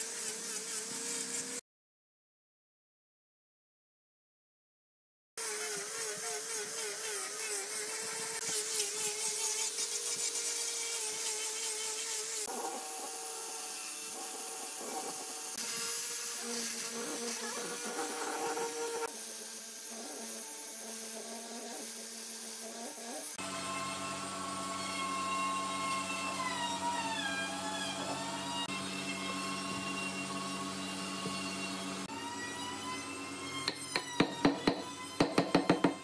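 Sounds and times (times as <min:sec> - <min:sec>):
angle grinder sanding wood: 0:05.4 - 0:36.0.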